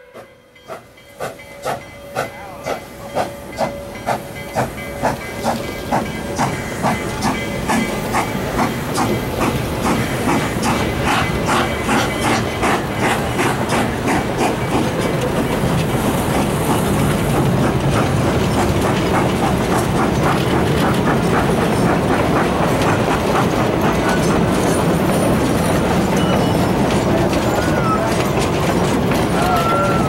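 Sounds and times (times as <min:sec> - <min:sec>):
train wheels rumbling: 0:00.0 - 0:30.0
wheels clicking over rail joints: 0:00.2 - 0:30.0.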